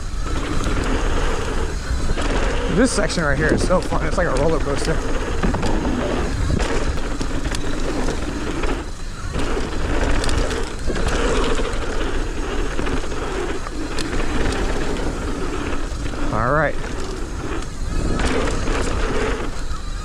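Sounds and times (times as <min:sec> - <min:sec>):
bike rattling and clicking: 0:00.0 - 0:20.0
tyres rolling over dirt: 0:00.0 - 0:20.0
wind on microphone: 0:00.0 - 0:20.0.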